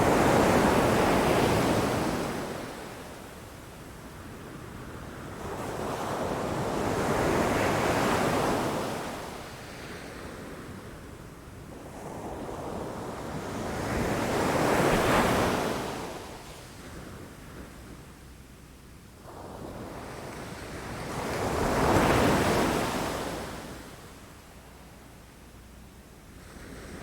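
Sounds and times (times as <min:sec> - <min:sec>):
low rumble of the sea: 0:00.0 - 0:27.0.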